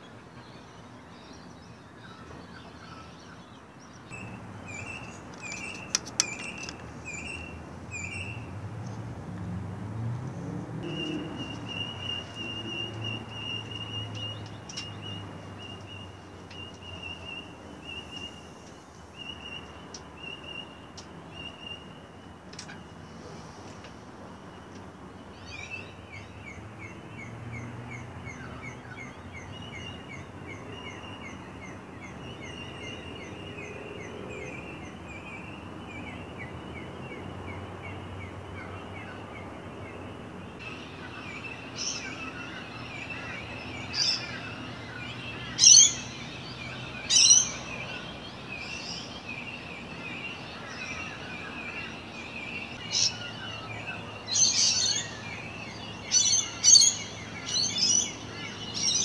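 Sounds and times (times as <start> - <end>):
birds chirping: 0.0 - 9.2, 10.2 - 59.0.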